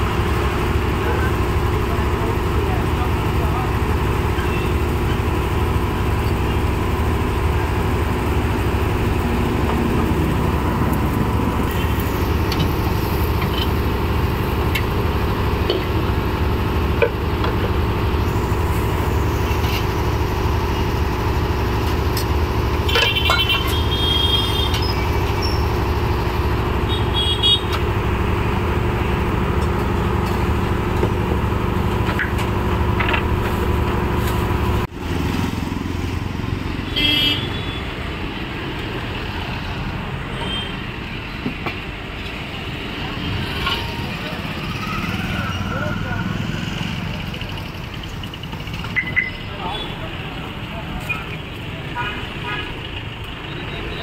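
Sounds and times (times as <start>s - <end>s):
engine and road traffic noise: 0.0s - 54.0s.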